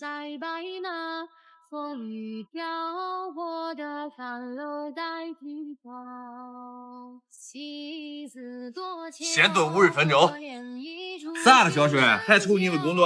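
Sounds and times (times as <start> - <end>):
woman singing slow melody: 0.0 - 13.0.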